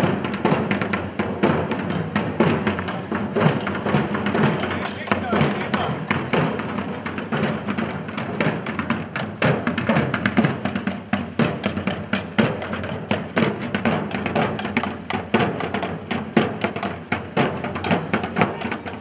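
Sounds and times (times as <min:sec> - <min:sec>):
drums beating: 0:00.0 - 0:19.0.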